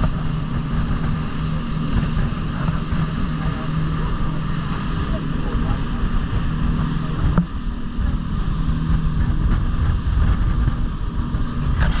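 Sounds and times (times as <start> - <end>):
motorboat engine drone: 0.0 - 12.0
water rushing along hull: 0.0 - 12.0
wind buffeting microphone: 0.0 - 12.0.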